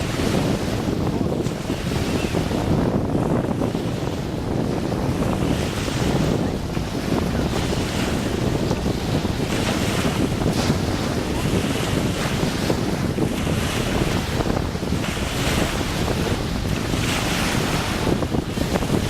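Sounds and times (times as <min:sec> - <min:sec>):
sea waves washing in: 0:00.0 - 0:19.0
wind buffeting microphone: 0:00.0 - 0:19.0.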